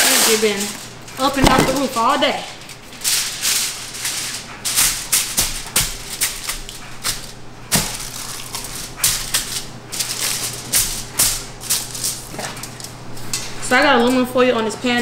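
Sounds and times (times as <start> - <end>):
aluminum foil crinkling: 0.0 - 14.2.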